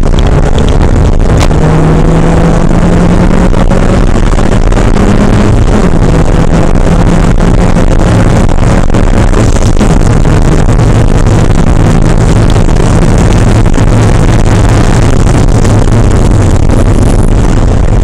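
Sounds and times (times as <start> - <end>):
car engine running loud: 0.0 - 18.0
rushing noise: 0.0 - 18.0.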